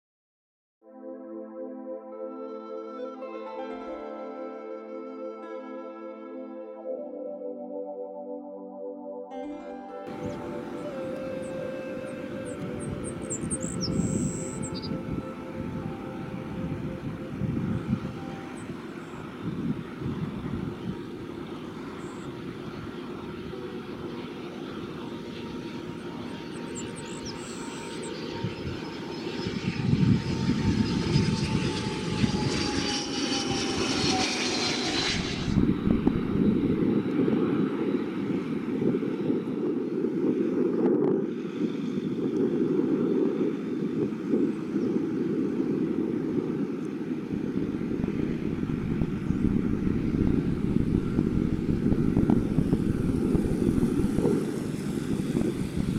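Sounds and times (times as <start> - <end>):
jet engine rumble: 10.1 - 55.9
jet engine whine: 10.1 - 55.9.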